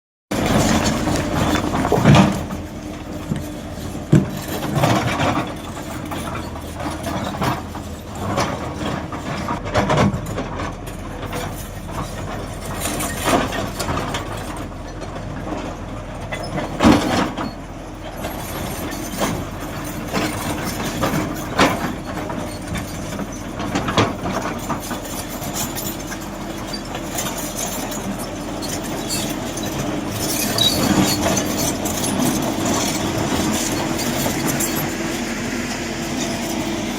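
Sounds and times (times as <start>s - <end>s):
excavator diesel engine running: 0.3s - 36.9s.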